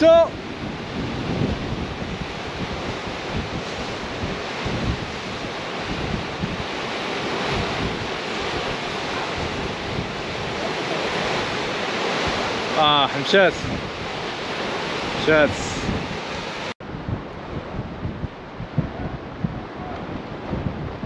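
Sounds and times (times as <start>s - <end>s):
sea surf washing on shore: 0.0s - 21.0s
wind buffeting microphone: 0.0s - 21.0s.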